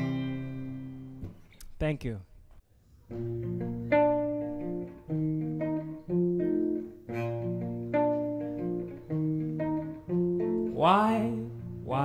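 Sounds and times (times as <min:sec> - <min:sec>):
acoustic guitar playing: 0:00.0 - 0:01.5, 0:03.1 - 0:12.0.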